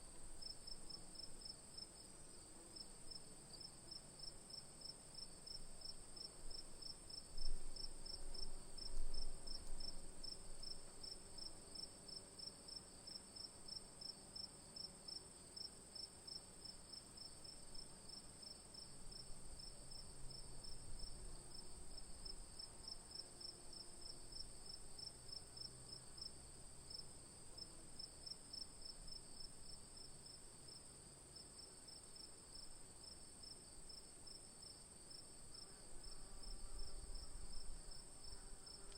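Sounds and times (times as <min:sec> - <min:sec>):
high continuous cricket trill: 0:00.0 - 0:38.9.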